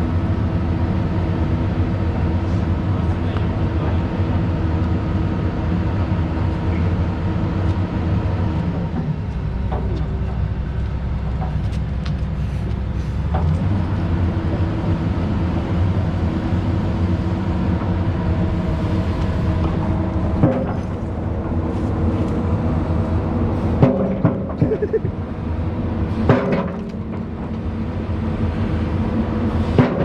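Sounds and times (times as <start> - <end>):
heavy machine engine running: 0.0 - 30.0.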